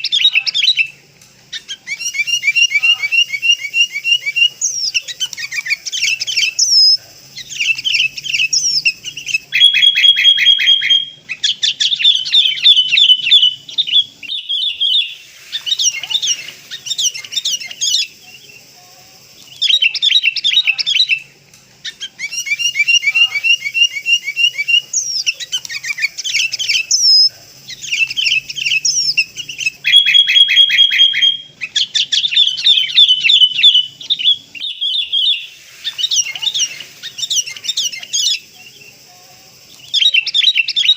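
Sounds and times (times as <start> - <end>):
bird whistled chatter: 0.0 - 40.9.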